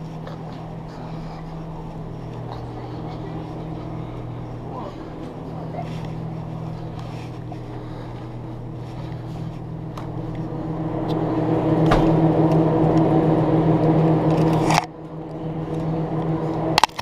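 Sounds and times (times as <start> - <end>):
drink cooler machine hum: 0.0 - 17.0.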